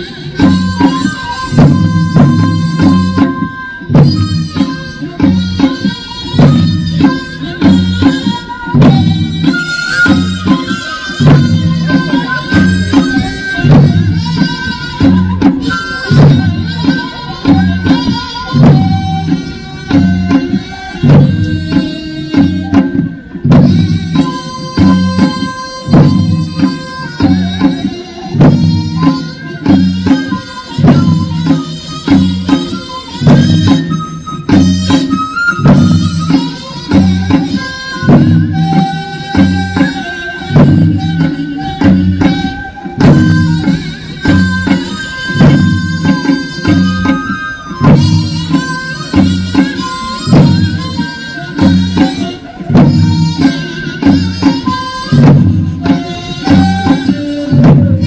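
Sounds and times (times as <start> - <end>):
reedy wind instrument: 0.0 - 58.0
repeating drum pattern: 0.0 - 58.0.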